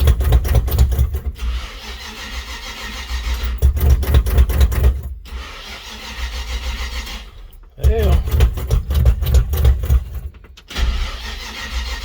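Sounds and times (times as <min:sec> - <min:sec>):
engine starter cranking: 0:00.0 - 0:12.0.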